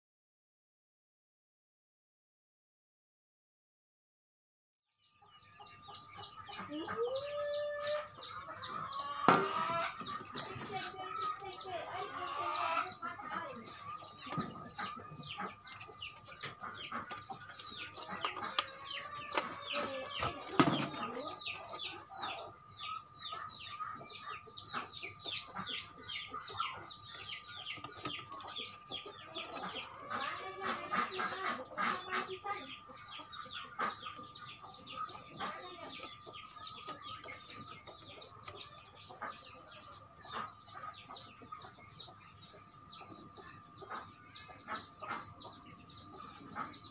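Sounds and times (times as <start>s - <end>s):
chickens chirping: 5.0s - 46.9s.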